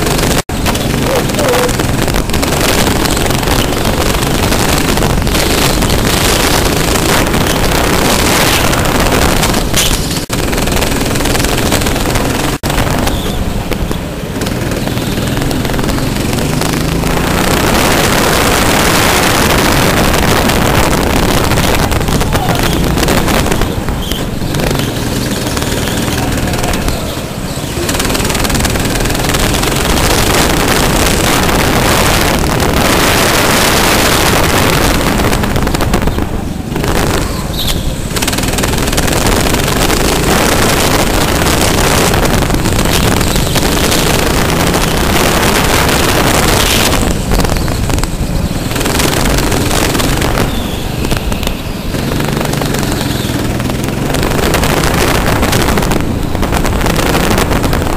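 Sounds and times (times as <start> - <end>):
go-kart engine running rough: 0.0 - 57.9.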